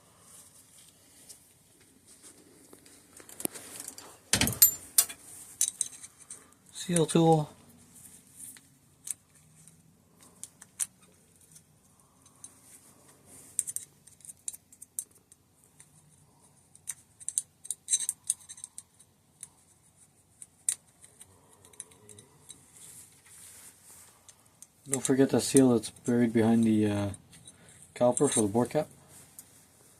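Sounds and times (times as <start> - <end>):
small metal clicks and scrapes: 2.8 - 7.4, 8.0 - 29.6.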